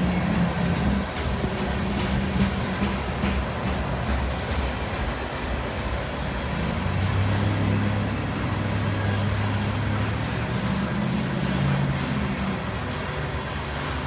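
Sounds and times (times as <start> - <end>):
diesel locomotive engine drone: 0.0 - 14.0
rail and wheel noise: 0.0 - 14.0.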